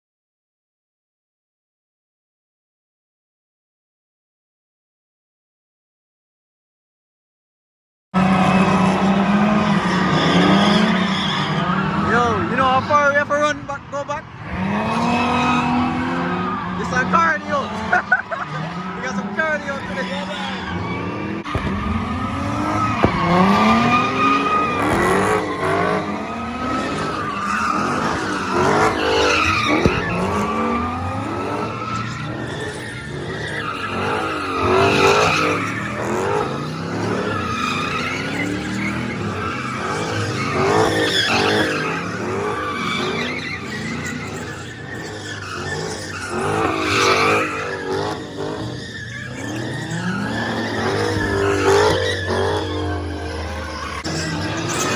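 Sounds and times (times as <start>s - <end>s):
car engines revving: 8.2s - 54.9s
tyres skidding and squealing: 8.2s - 54.9s.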